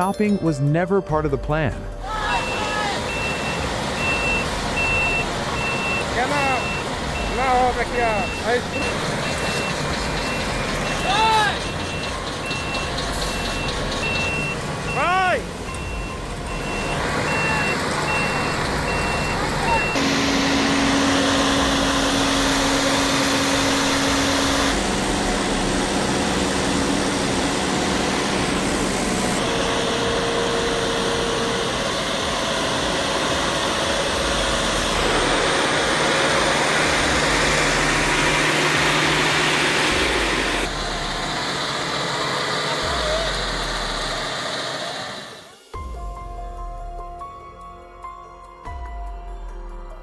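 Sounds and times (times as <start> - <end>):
diesel engines running hard: 1.5 - 45.7.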